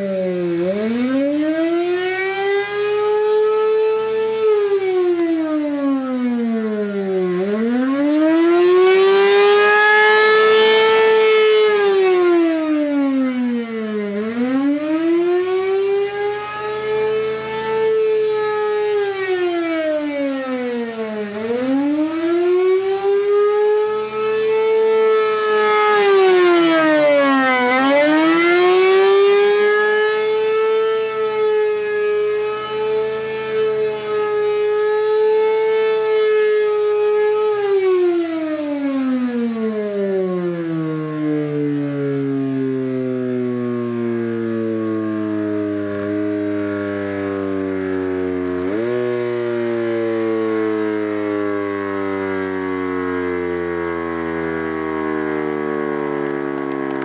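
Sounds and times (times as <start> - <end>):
siren wailing: 0.0 - 57.0.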